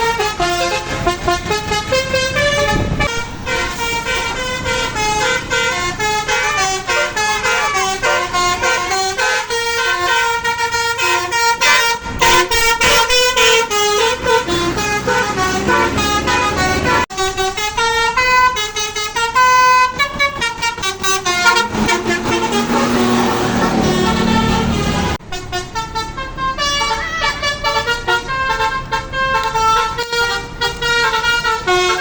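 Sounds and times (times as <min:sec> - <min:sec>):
multi-tone bus horn melody: 0:00.0 - 0:32.0.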